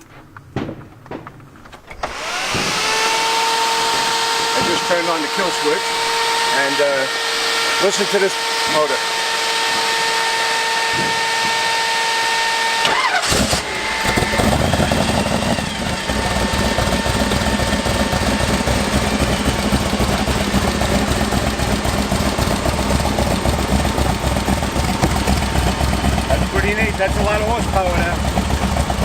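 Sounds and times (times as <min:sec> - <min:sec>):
steady high whine: 0:01.9 - 0:29.0
car engine pulsing idle: 0:02.2 - 0:29.0.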